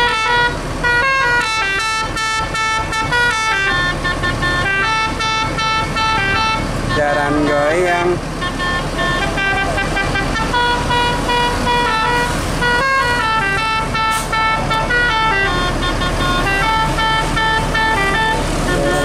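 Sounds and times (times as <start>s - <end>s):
engines rumbling: 0.0s - 19.0s
musical air horns playing a tune: 0.0s - 19.0s.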